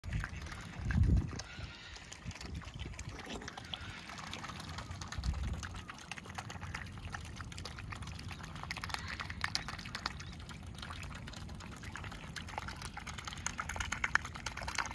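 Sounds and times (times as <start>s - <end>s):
swans splashing at water surface: 0.0s - 14.9s.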